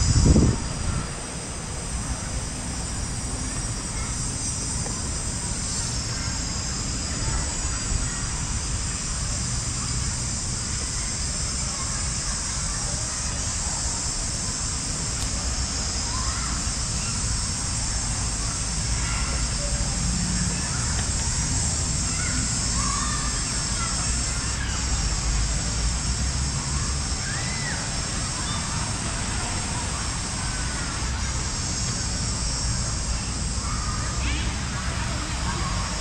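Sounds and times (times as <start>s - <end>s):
outdoor rushing hiss: 0.0s - 36.0s.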